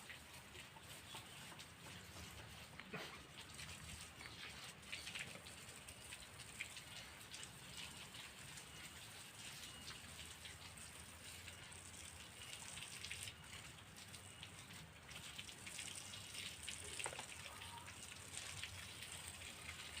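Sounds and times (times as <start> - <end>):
water dripping and splashing: 0.0 - 20.0.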